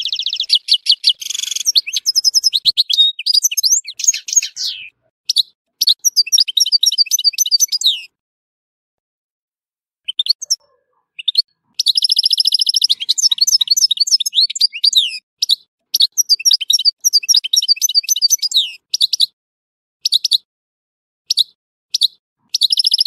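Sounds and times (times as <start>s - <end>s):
goldfinch singing: 0.0s - 8.1s, 10.1s - 19.3s, 21.3s - 23.0s.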